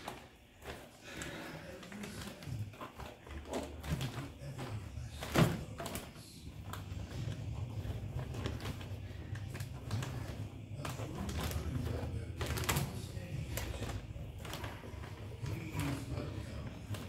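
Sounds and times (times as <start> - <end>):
handling noises: 0.0 - 17.0.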